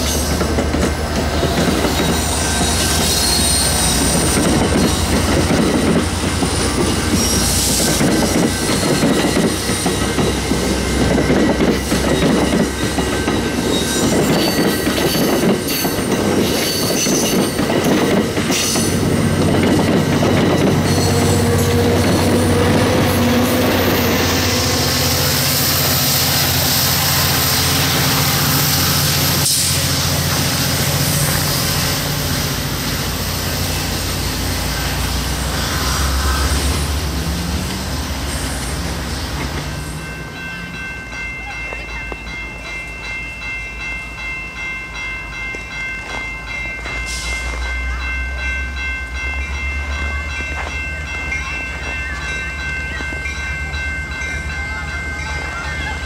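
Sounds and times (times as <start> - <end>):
level crossing warning bell: 0.0 - 35.6, 38.8 - 56.0
diesel locomotive engine running: 0.0 - 56.0
train rail noise: 0.0 - 56.0.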